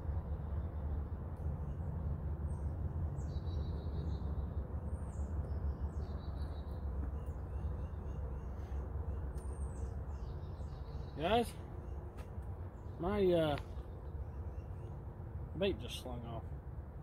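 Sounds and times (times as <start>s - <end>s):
birds chirping: 0.2s - 16.6s.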